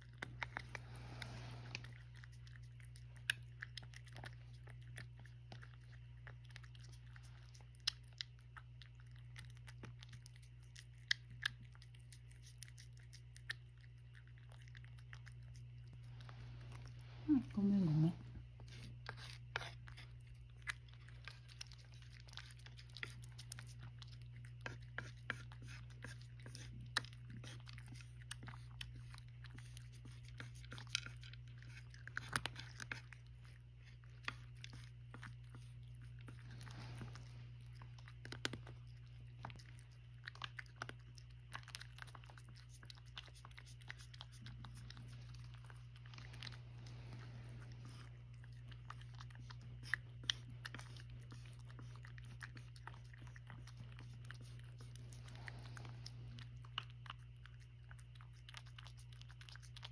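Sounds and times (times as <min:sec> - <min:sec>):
cat crunching dry kibble: 0:00.0 - 0:59.9
low steady hum: 0:00.0 - 0:59.9.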